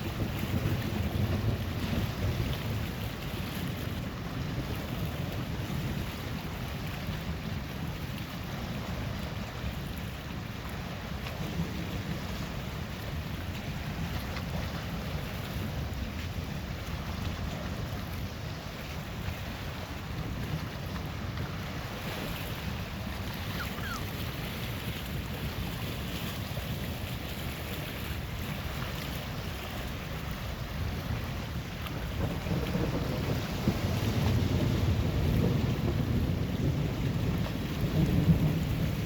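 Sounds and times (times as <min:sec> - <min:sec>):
waves washing on shore: 0:00.0 - 0:39.0
wind buffeting microphone: 0:00.0 - 0:39.0.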